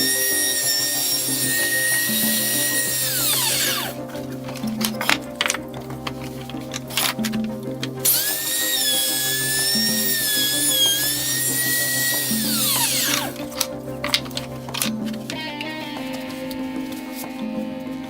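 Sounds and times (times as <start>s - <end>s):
background music with beat: 0.0s - 18.0s
electric router whining: 0.0s - 18.0s.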